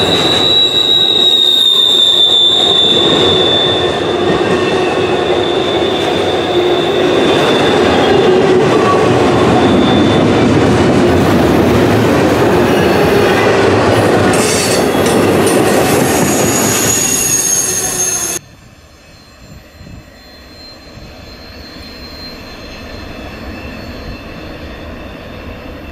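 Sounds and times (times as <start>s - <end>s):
high wheel squeal: 0.0s - 10.5s, 12.4s - 25.9s
freight train rumbling and rattling: 0.0s - 25.9s.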